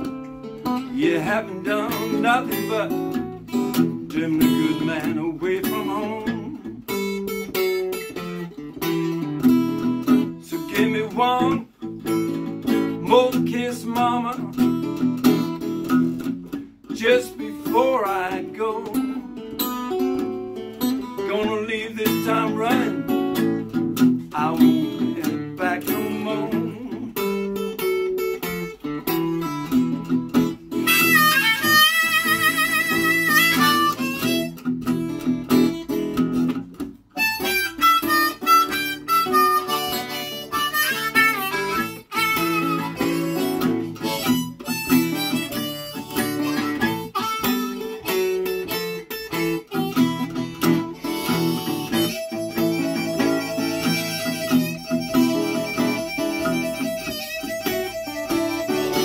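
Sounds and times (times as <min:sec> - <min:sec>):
acoustic guitar accompaniment: 0:00.0 - 0:59.0
blues harmonica solo: 0:00.0 - 0:59.0.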